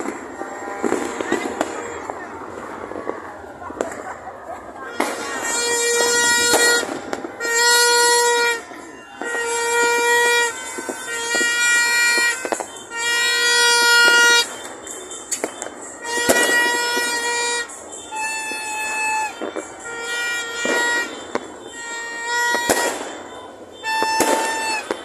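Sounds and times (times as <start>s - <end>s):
horn blasts: 0.0s - 2.5s, 4.8s - 25.0s
fireworks popping: 0.0s - 25.0s.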